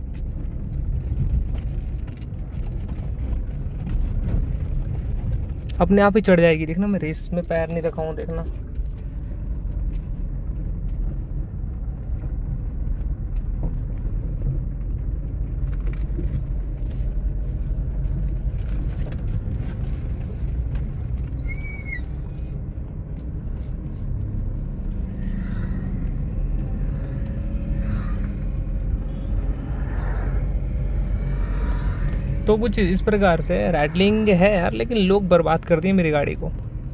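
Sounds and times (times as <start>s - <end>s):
low rumble of engine and road: 0.0s - 36.9s.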